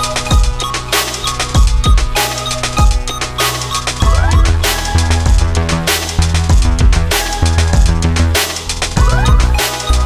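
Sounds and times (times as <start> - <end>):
electronic music: 0.0 - 10.0
heavy kick-drum beat: 0.0 - 10.0.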